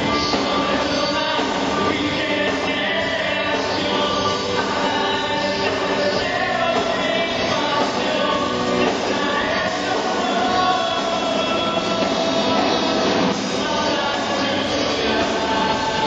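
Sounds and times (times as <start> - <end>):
band playing worship song: 0.0 - 16.0
person singing: 0.0 - 16.0.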